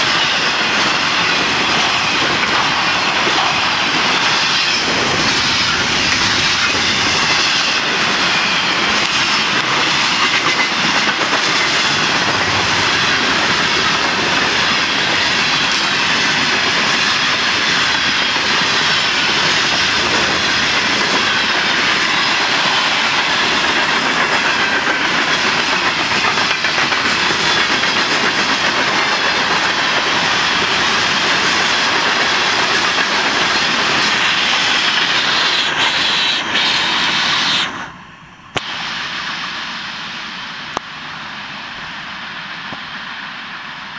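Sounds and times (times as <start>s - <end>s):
freight train wheels on rail: 0.0s - 43.9s.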